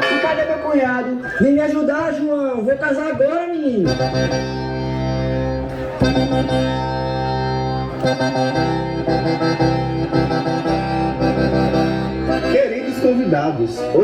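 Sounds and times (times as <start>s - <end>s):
accordion playing chords: 0.0s - 1.9s, 3.8s - 14.0s.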